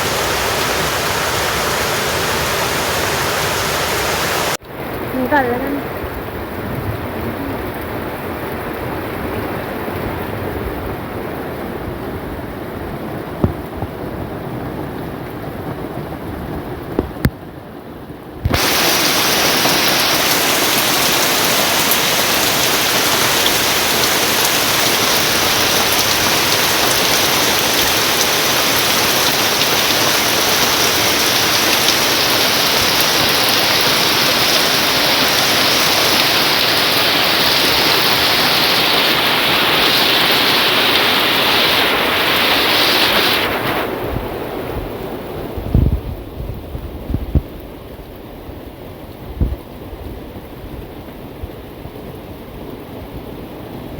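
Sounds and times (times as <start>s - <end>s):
steady rainfall: 0.0s - 53.9s.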